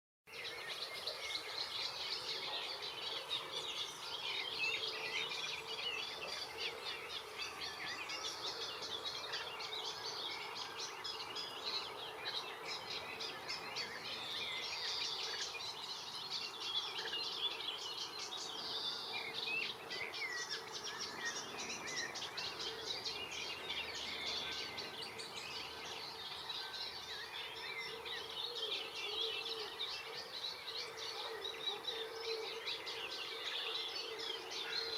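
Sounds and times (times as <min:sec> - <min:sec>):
songbirds chirping and singing: 0:00.3 - 0:34.9.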